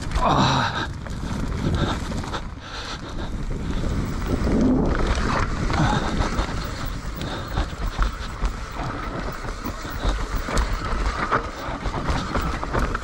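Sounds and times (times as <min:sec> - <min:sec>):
dirt bike engine: 0:00.0 - 0:13.0
wind buffeting microphone: 0:00.0 - 0:13.0.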